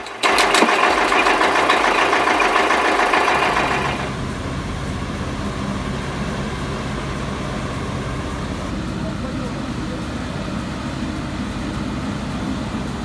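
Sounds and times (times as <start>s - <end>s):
loud machine clatter: 0.0s - 13.0s
truck diesel engine rumbling: 0.0s - 13.0s.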